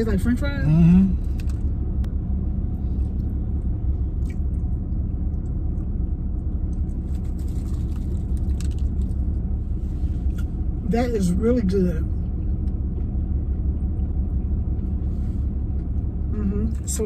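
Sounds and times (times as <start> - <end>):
vehicle engine idling: 0.0 - 17.0
crunching and chewing food: 1.2 - 2.1, 2.7 - 10.8, 11.6 - 17.0.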